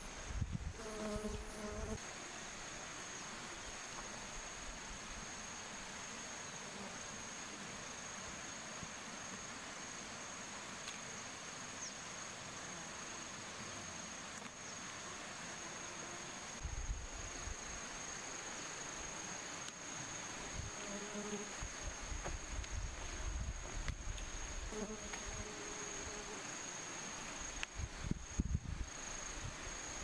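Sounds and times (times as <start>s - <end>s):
faint hiss: 0.0s - 30.0s
insects trilling: 0.0s - 30.0s.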